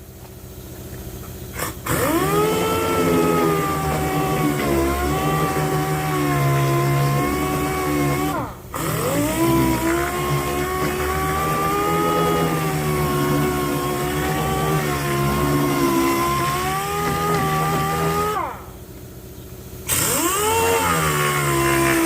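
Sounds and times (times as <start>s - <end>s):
power sander running: 1.6s - 18.8s, 19.9s - 22.0s.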